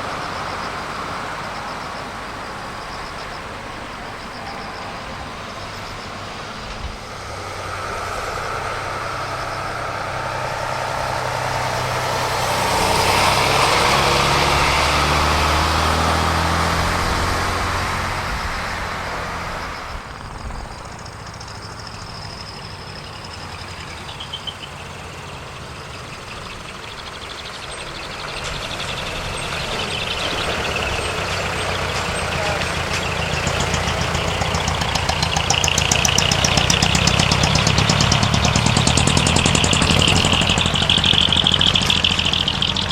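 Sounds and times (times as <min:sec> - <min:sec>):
trucks driving past: 0:00.0 - 0:42.9.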